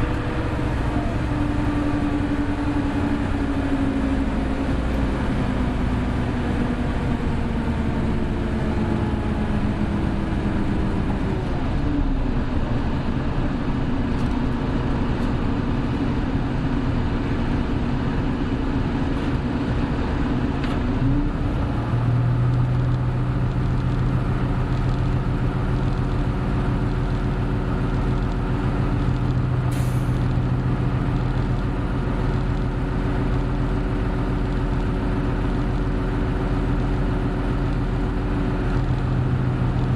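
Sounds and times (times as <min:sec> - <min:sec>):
bus engine driving: 0:00.0 - 0:39.9.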